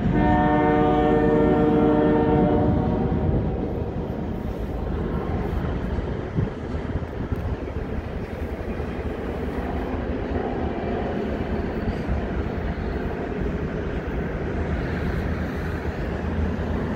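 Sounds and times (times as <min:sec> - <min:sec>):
distant freight train rumbling: 0:00.0 - 0:16.9.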